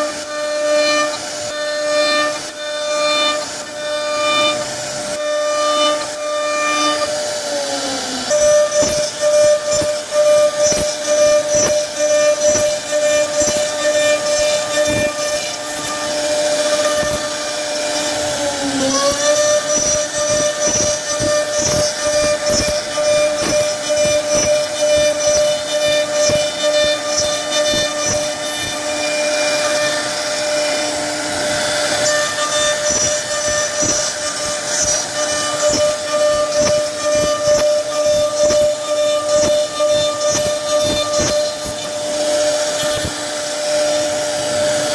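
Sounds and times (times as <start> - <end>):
router spindle whine: 0.0 - 44.9.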